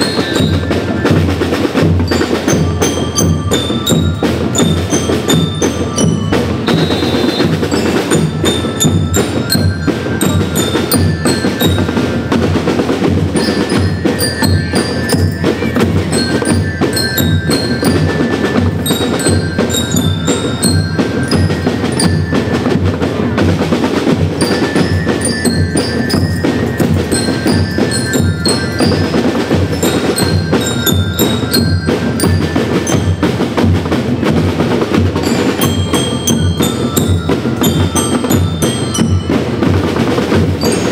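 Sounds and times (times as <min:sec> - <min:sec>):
bell lyres playing melody: 0:00.0 - 0:40.9
snare and bass drums: 0:00.0 - 0:40.9.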